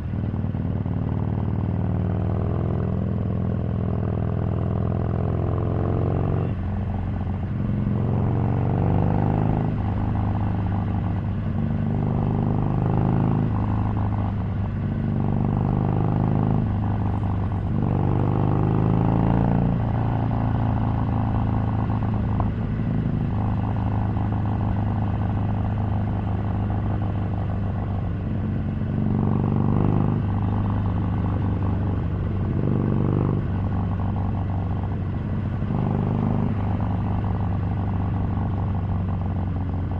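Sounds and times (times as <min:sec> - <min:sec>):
motorcycle engine revving: 0:01.8 - 0:39.9.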